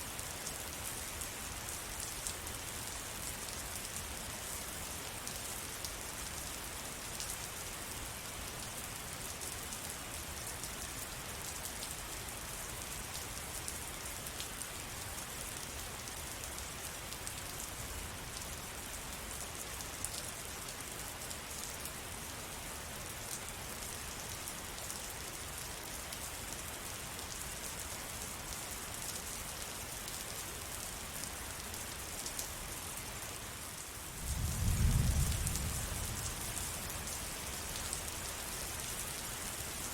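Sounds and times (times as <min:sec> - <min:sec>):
rain drops pattering: 0:00.1 - 0:39.9.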